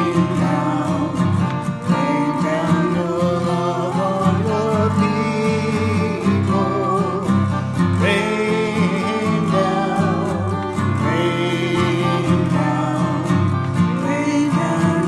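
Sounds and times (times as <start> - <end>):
acoustic guitar: 0.0 - 15.0
choir singing a hymn: 0.0 - 15.0.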